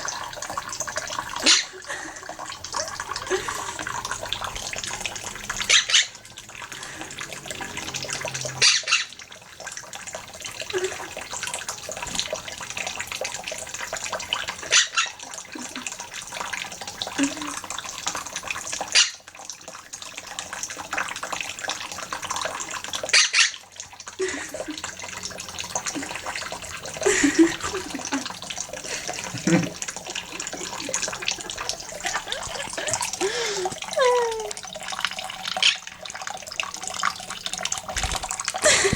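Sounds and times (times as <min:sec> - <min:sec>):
parrot splashing in water: 0:00.0 - 0:38.9
water running from a tap: 0:00.0 - 0:38.9.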